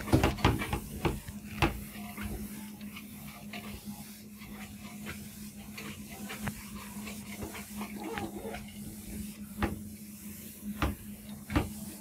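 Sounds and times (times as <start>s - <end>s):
cloth rubbing on whiteboard: 0.0s - 12.0s.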